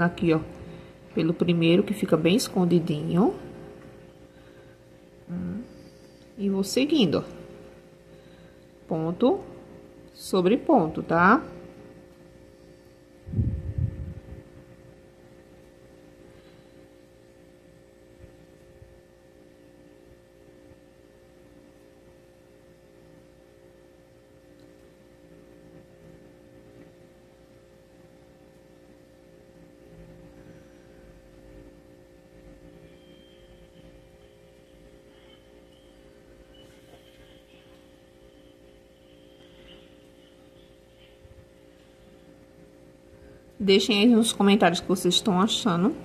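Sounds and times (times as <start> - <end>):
steady low hum with tones: 0.0 - 46.0.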